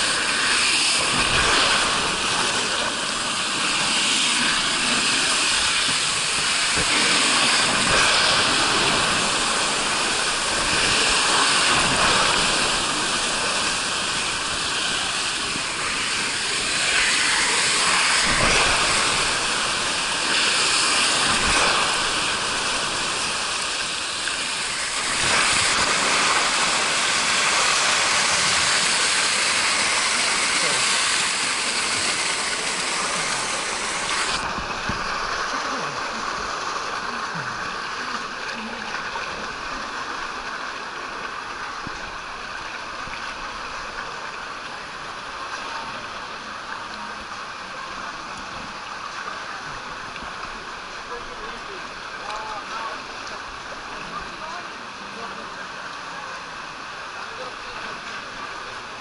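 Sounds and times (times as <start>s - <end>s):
water rushing down slide: 0.0s - 59.0s.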